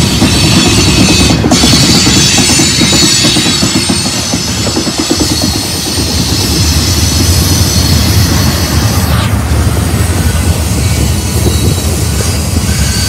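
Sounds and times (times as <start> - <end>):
train wheels squealing: 0.0 - 9.4, 10.1 - 13.0
freight train rumble: 0.0 - 13.0
rapid clickety-clack of wheels: 0.0 - 13.0.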